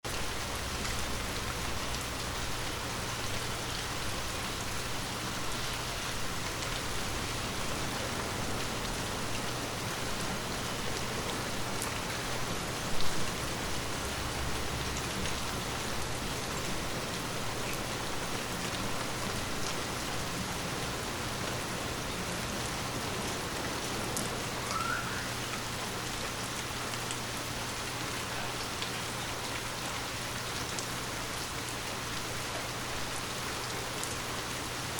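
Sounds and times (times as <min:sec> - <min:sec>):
steady rain falling: 0:00.0 - 0:34.9
raindrops ticking on surface: 0:00.1 - 0:34.9.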